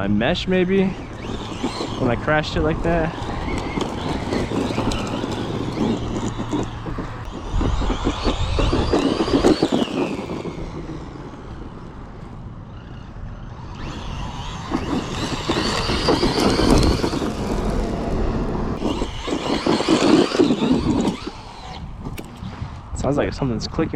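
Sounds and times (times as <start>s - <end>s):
rc truck motor whine: 0.0s - 22.8s
tyres rumbling on dirt: 0.0s - 23.9s.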